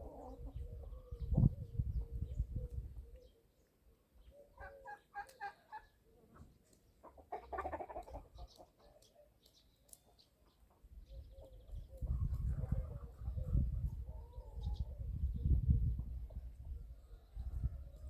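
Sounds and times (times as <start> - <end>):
chickens clucking: 0.0 - 2.9, 4.5 - 9.3, 10.0 - 18.0.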